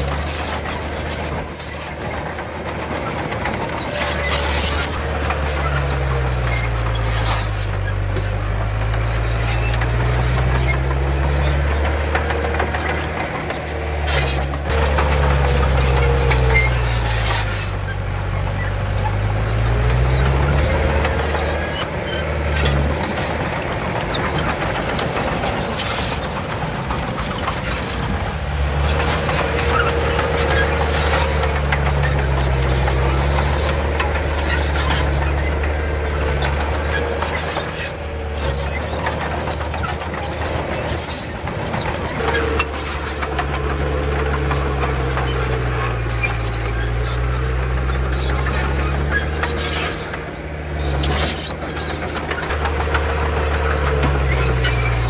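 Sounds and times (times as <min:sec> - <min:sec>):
bulldozer engine under load: 0:00.0 - 0:55.0
wavering squeal: 0:00.0 - 0:55.0.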